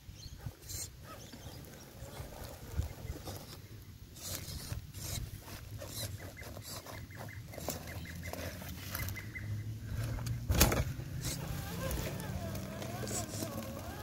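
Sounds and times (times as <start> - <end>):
electric motor and gears running: 0.2 - 14.0
tyres rustling through dry leaves: 0.7 - 14.0.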